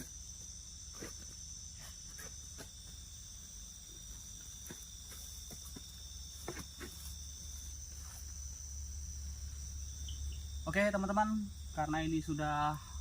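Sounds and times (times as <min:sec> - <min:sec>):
night insects calling: 0:00.0 - 0:13.0.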